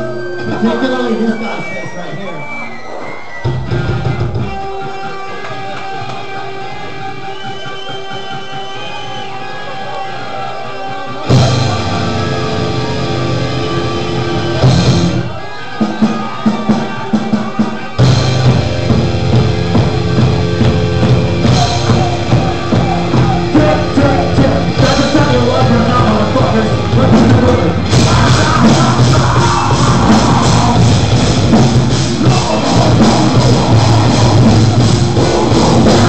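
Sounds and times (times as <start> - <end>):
live rock band: 0.0 - 36.0.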